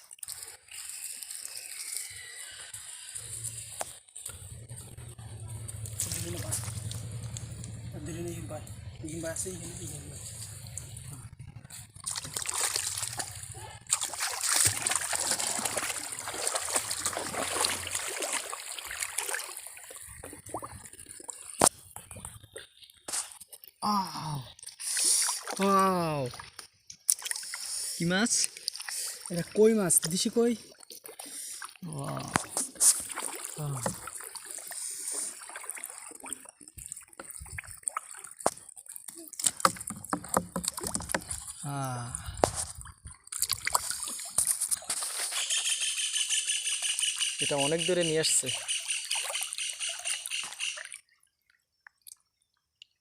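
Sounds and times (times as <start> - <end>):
pond water splashing and trickling: 0.0 - 53.0.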